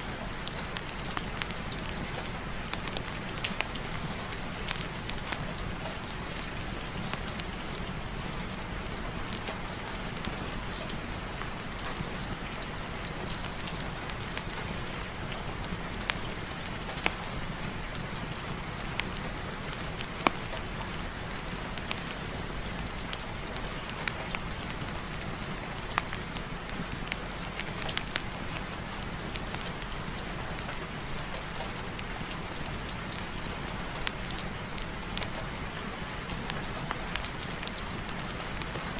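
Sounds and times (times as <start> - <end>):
steady rain falling: 0.0 - 38.9
raindrop clicks: 0.1 - 38.9.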